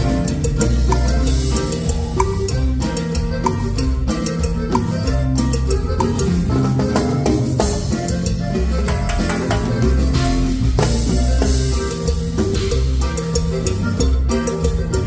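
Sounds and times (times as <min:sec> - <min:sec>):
deep bass notes: 0:00.0 - 0:15.0
drum kit: 0:00.0 - 0:15.0
live band playing latin dance music: 0:00.0 - 0:15.0.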